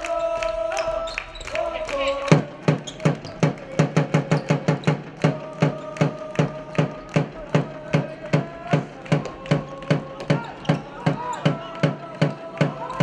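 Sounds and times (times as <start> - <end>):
drums beating fast rhythm: 2.2 - 13.0.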